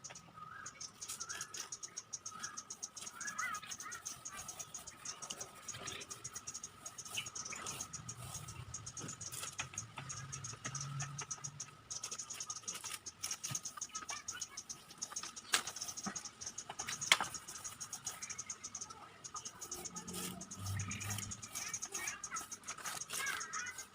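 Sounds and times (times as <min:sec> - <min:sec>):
insects chirping in pulsing runs: 0:00.0 - 0:23.9
small clicks and scrapes: 0:00.0 - 0:23.9
high insect drone: 0:00.7 - 0:23.9.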